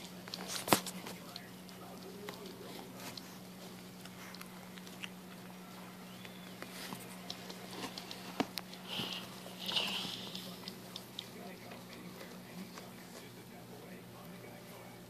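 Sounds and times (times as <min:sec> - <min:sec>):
puppy chewing food: 0:00.0 - 0:15.0.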